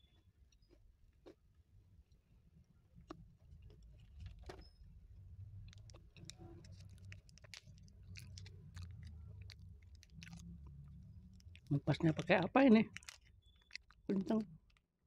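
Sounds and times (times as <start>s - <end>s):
person chewing crunchy biscuit: 0.0s - 1.8s, 2.9s - 14.8s.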